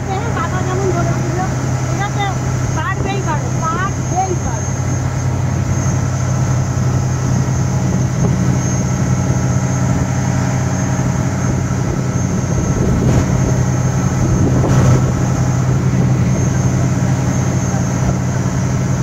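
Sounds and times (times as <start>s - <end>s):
motorboat engine drone: 0.0s - 19.0s
water rushing: 0.0s - 19.0s.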